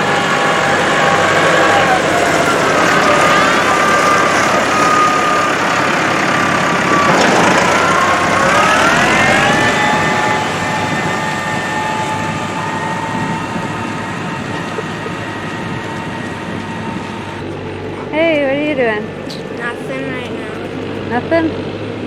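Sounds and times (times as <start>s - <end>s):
grain grinder running: 0.0s - 21.1s.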